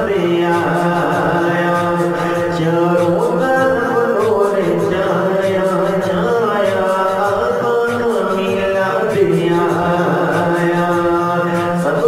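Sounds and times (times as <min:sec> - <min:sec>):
person singing long notes: 0:00.0 - 0:12.0.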